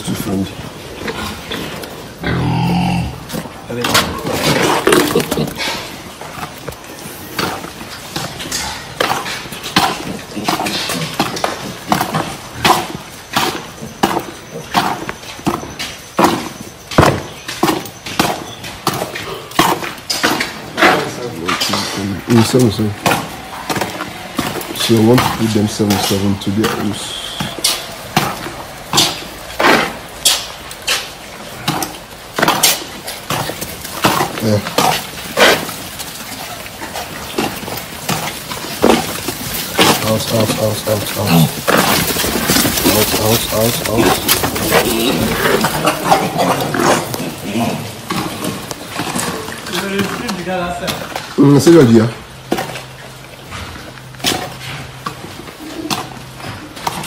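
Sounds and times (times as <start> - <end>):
hooves clattering on concrete: 0.0 - 57.0.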